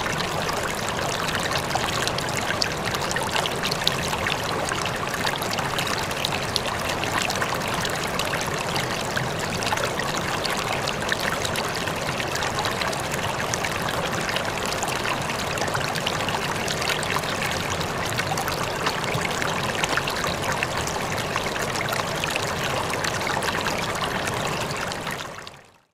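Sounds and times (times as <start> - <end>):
river water flowing over rocks: 0.0 - 25.4.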